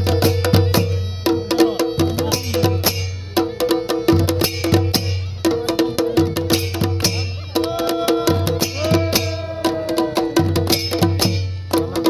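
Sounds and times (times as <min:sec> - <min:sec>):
drums struck with sticks: 0:00.0 - 0:12.0.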